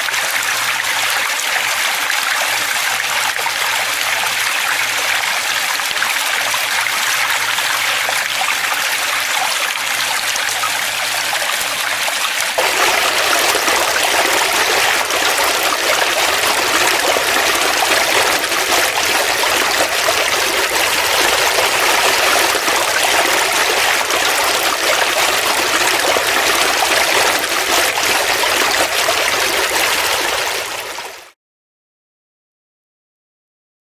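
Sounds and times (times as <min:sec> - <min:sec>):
flowing water: 0:00.0 - 0:31.4.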